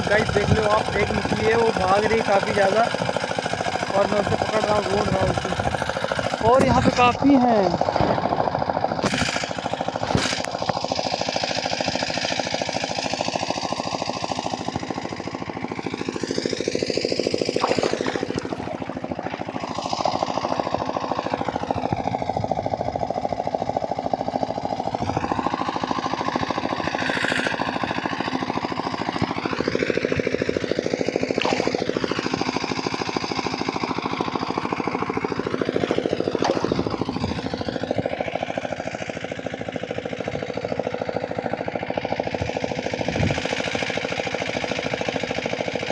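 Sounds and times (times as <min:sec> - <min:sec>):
small engine chugging: 0:00.0 - 0:45.9.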